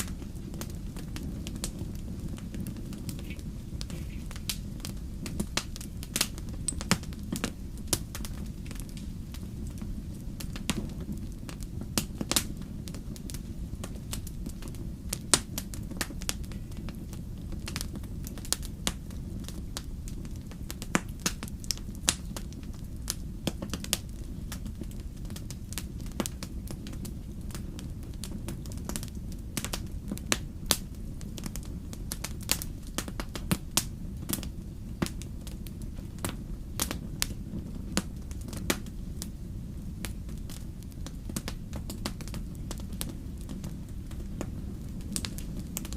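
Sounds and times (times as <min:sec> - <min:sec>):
burning logs crackling and popping: 0:00.0 - 0:45.9
wood fire low rumble: 0:00.0 - 0:45.9.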